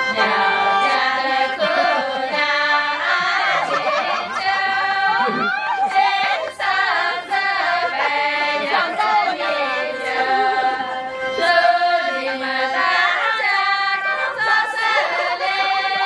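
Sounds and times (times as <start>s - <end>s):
women singing together: 0.0s - 16.0s.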